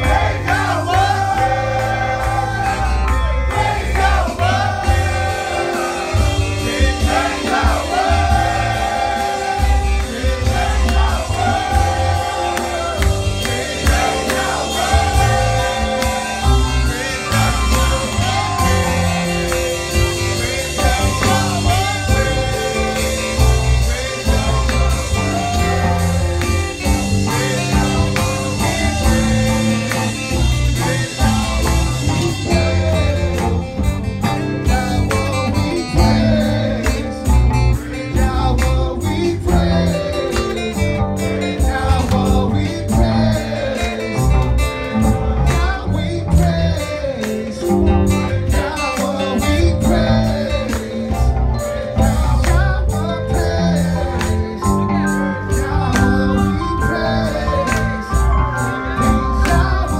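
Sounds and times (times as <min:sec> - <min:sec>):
electronic keyboard through loudspeaker: 0:00.0 - 0:59.9
men singing together: 0:00.0 - 0:59.9
pulsing bass line: 0:00.0 - 0:59.9.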